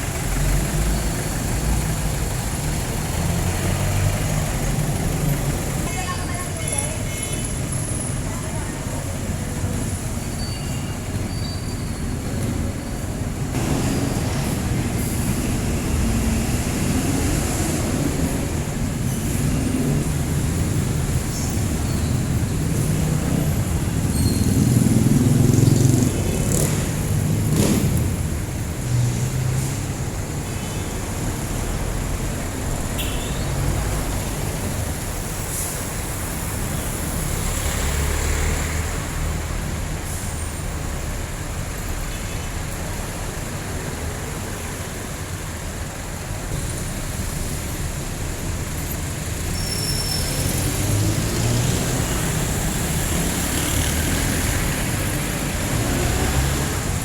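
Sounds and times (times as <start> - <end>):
vehicle engines low rumble: 0.0 - 57.0.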